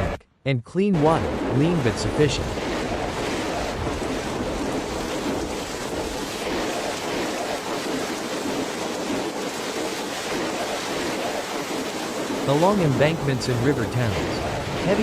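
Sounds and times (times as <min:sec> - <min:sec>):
rushing water: 0:01.0 - 0:15.0.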